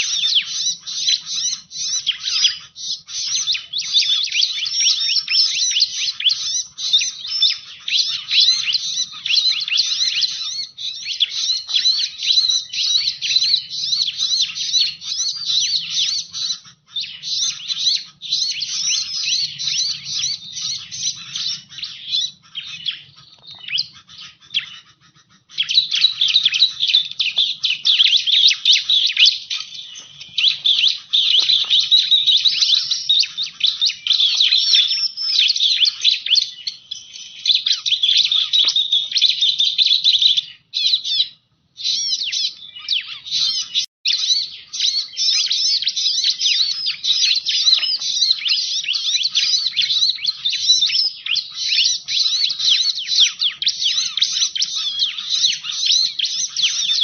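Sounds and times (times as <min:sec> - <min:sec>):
bird rapid high chirps: 0:00.0 - 0:57.0.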